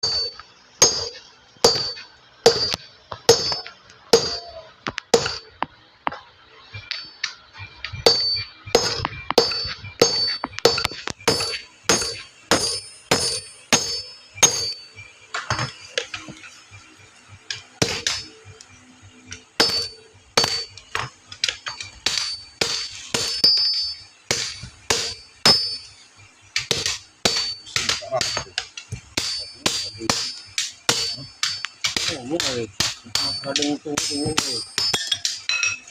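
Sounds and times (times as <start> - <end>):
hammer ringing on anvil: 0.0 - 4.6, 5.2 - 5.5, 8.0 - 16.4, 17.5 - 18.6, 19.3 - 25.9, 26.6 - 35.9.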